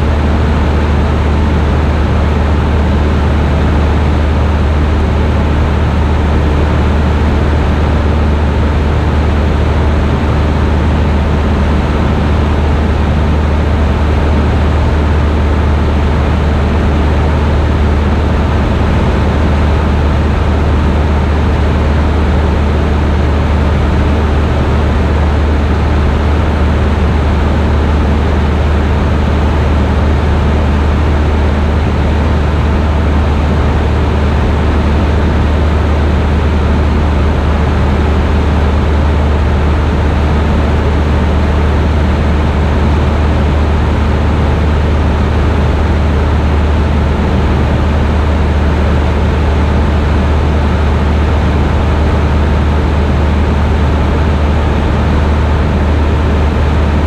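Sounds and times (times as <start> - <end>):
airplane engine drone in cabin: 0.0 - 57.0.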